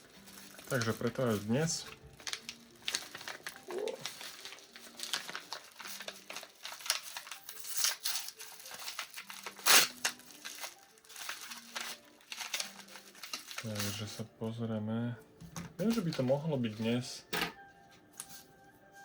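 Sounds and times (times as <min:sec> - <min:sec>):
packaging crinkling and rustling: 0:00.0 - 0:14.2, 0:15.8 - 0:17.0.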